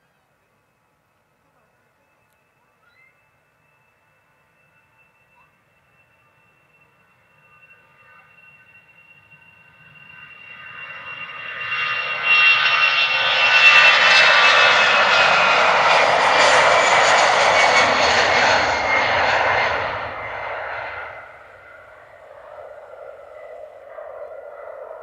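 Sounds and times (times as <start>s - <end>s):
high jet whine: 3.8s - 25.0s
jet engine roar: 3.8s - 25.0s.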